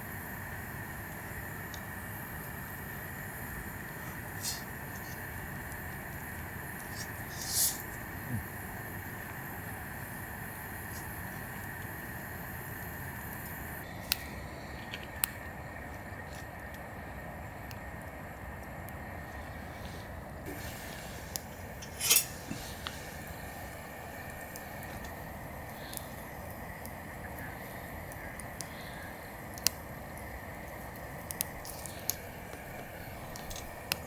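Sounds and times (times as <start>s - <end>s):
steady background hiss: 0.0s - 34.0s.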